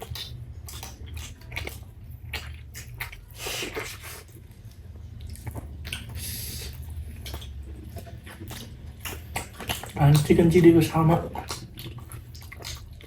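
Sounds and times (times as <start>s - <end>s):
low steady hum: 0.0s - 13.0s
wet chewing mouth sounds: 0.0s - 13.0s.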